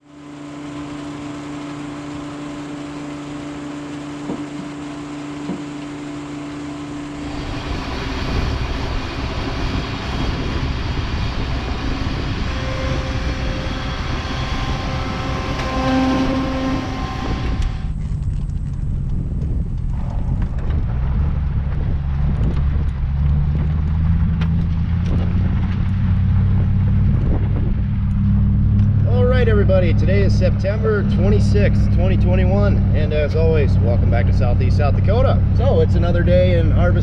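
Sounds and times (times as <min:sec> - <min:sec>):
farm machinery engine running: 0:00.0 - 0:37.0.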